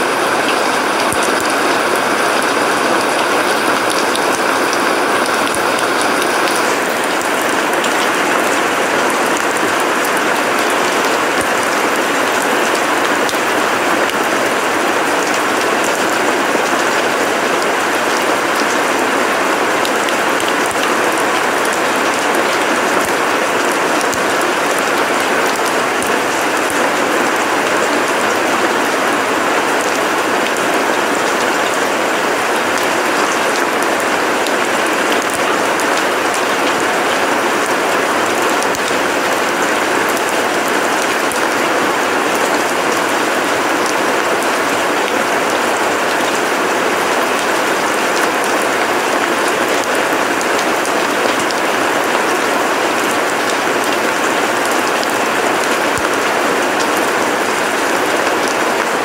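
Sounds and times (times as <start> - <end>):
rain on paving and grass: 0.0 - 59.0.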